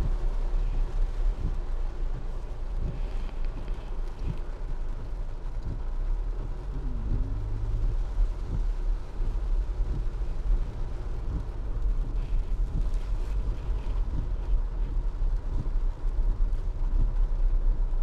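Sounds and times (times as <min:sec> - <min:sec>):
small irregular thumps: 0:00.0 - 0:17.3
car engine and road rumble: 0:00.0 - 0:18.0.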